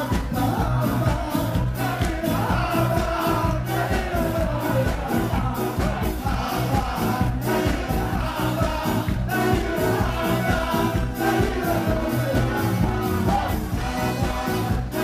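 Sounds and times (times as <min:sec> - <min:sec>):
people singing: 0:00.0 - 0:15.0
ska band playing live: 0:00.0 - 0:15.0.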